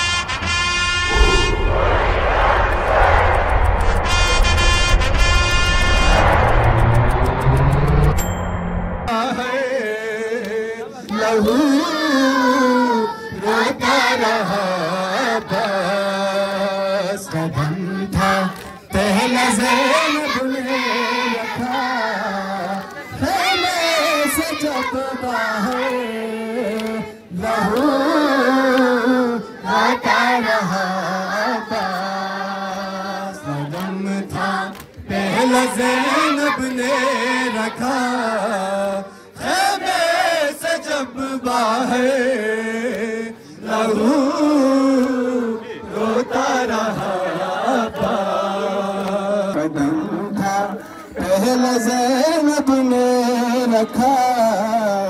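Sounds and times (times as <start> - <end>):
voices chanting a lament: 9.1 - 55.0.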